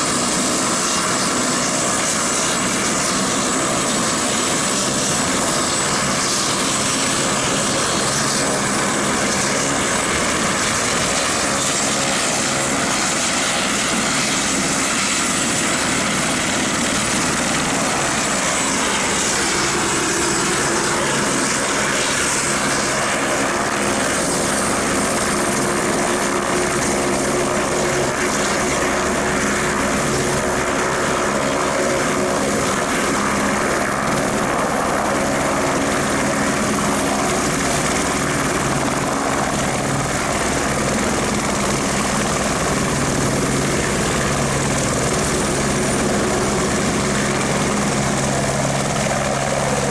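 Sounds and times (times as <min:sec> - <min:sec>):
aircraft engines whining: 0:00.0 - 0:49.9.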